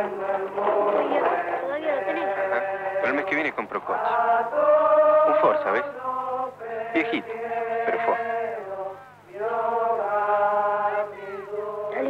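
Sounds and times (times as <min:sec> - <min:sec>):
voices chanting long notes: 0:00.0 - 0:12.0.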